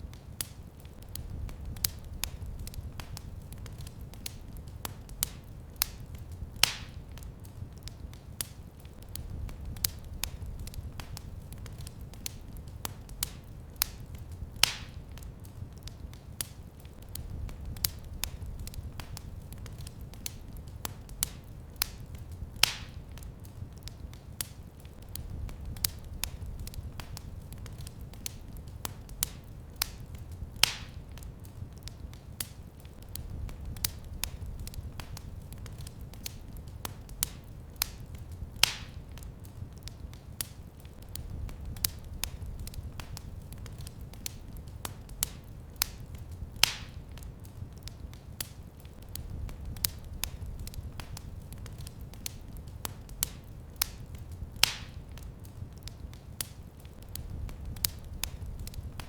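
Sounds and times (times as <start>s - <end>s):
fire crackling: 0.0s - 59.0s
fire popping: 0.0s - 59.0s.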